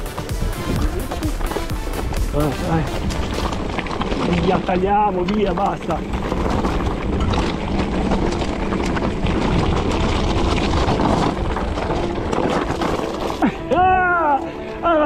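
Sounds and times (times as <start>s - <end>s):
bike knocking and rattling: 0.0s - 13.8s
tyres rumbling on rough ground: 0.0s - 15.0s.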